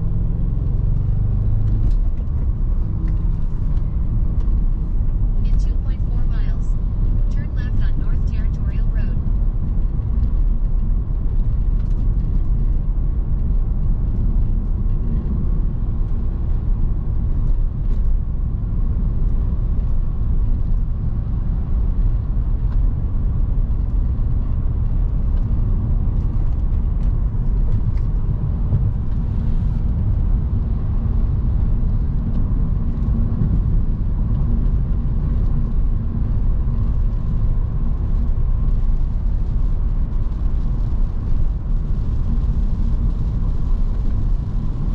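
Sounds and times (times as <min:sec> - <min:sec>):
car engine drone in cabin: 0:00.0 - 0:44.9
tyres on wet road: 0:00.0 - 0:44.9.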